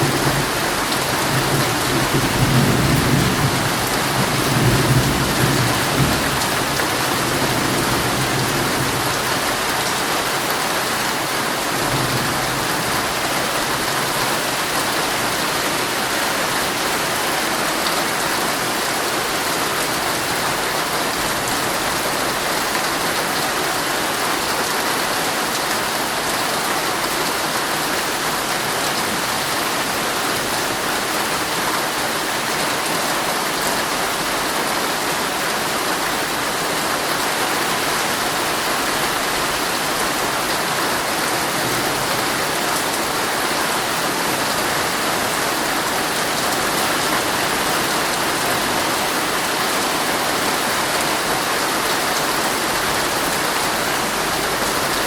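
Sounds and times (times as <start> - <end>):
heavy rain on a tent: 0.0 - 55.0.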